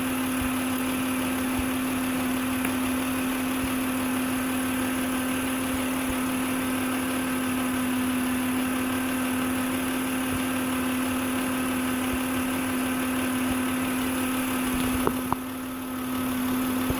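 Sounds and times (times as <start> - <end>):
alternator whine: 0.0 - 16.9
car engine idling: 0.0 - 16.9.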